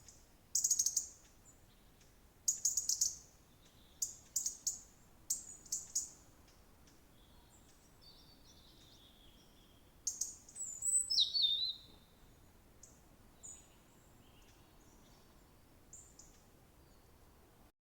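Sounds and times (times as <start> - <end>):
songbirds singing and chirping: 0.0 - 17.2.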